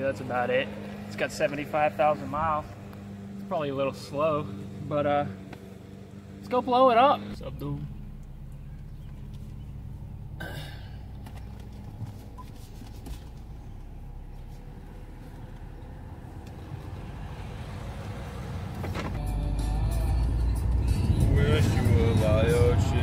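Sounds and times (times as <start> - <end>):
car engine running low speed: 0.0 - 23.0.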